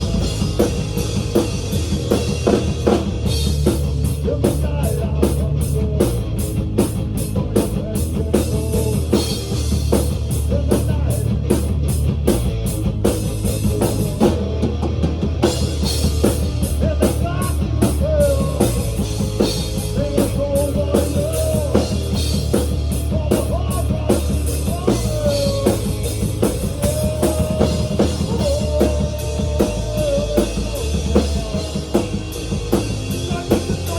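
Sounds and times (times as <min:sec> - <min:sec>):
rock music: 0:00.0 - 0:33.9.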